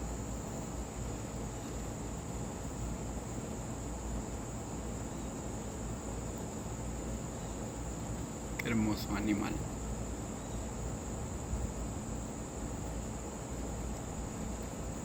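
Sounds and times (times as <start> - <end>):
insect chorus buzzing: 0.0 - 15.0.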